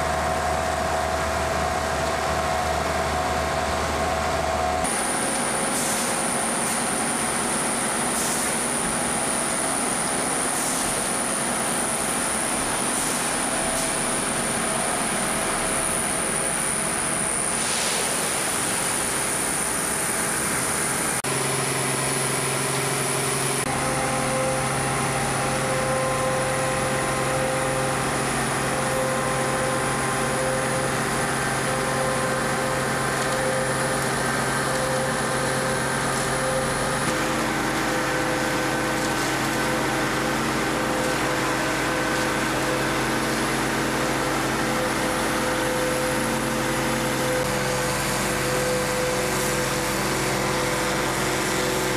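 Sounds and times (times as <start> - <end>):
machinery humming: 0.0 - 51.9.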